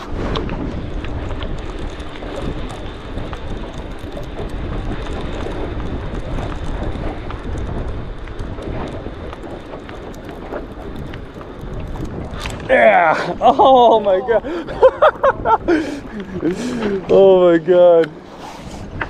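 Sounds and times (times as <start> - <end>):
low rumble: 0.0 - 18.2.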